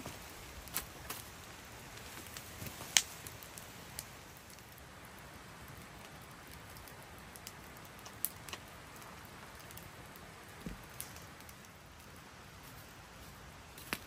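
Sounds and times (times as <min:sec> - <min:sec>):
rain falling: 0:00.0 - 0:14.0
sharp ticks of raindrops: 0:00.0 - 0:14.0.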